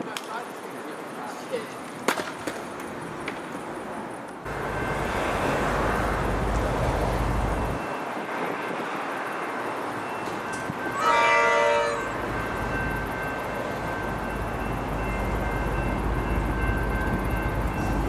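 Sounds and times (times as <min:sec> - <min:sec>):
train rushing through station: 0:00.0 - 0:18.0.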